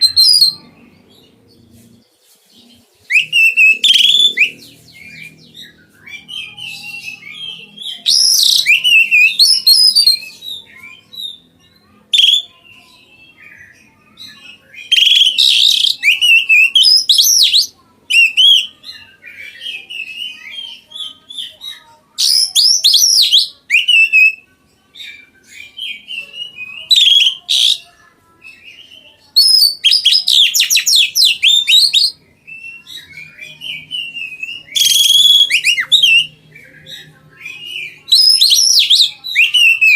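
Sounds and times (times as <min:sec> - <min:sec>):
songbird whistles and trills: 0:00.0 - 0:01.8, 0:03.0 - 0:27.9, 0:28.5 - 0:39.9.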